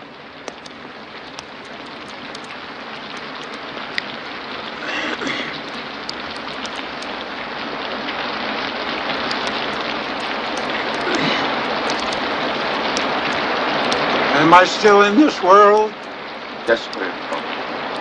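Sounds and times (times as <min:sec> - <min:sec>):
rain hissing: 0:00.0 - 0:18.0
raindrop ticks: 0:00.3 - 0:18.0.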